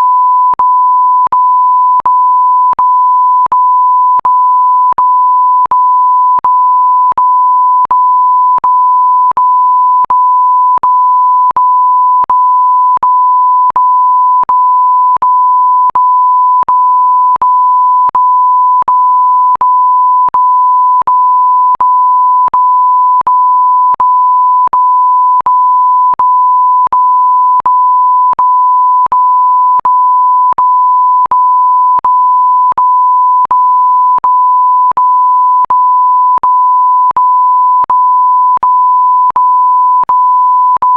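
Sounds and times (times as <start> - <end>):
long electronic beeps: 0.1 - 40.9.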